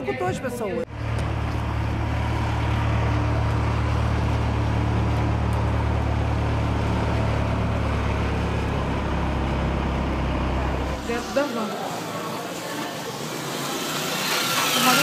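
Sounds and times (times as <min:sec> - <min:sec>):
vehicle engine low rumble: 0:00.8 - 0:13.6.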